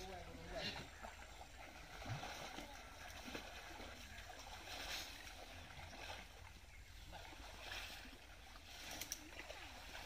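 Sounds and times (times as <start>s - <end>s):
pond water sloshing: 0.0s - 10.0s.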